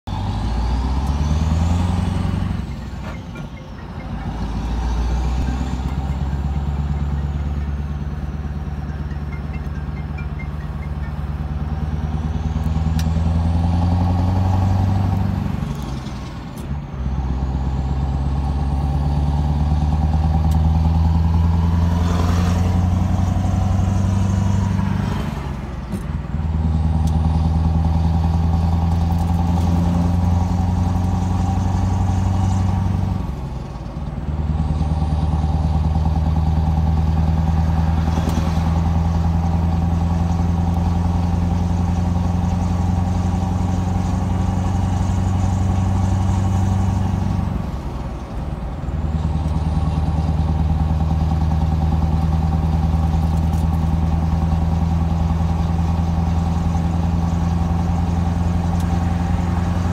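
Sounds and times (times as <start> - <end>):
diesel truck engine accelerating: 0.0 - 59.9.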